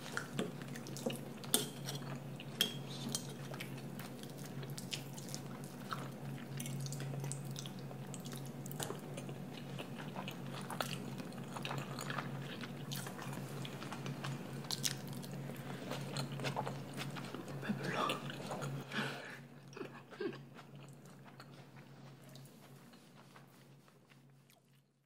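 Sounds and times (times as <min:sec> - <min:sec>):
steady low hum: 0:00.0 - 0:24.7
soft chewing: 0:00.0 - 0:25.0.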